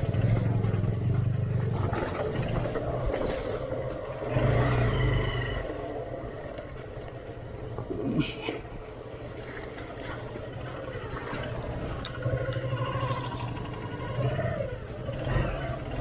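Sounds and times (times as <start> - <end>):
motorcycle engine revving: 0.0 - 9.2, 10.0 - 16.0.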